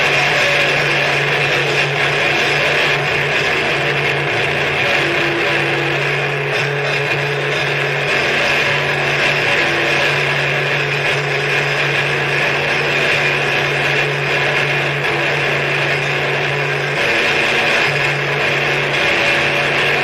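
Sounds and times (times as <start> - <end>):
harsh noise music: 0.0 - 20.0.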